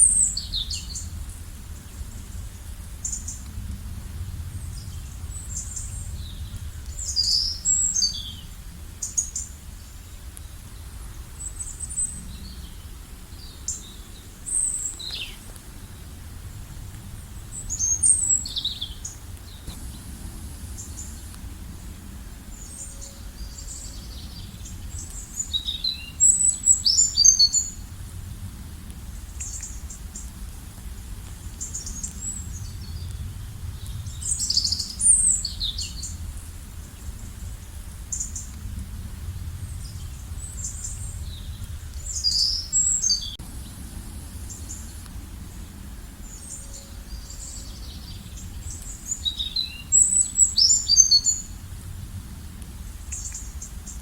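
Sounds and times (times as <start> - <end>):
songbirds chirping: 0.0 - 54.0
low outdoor rumble: 0.1 - 54.0.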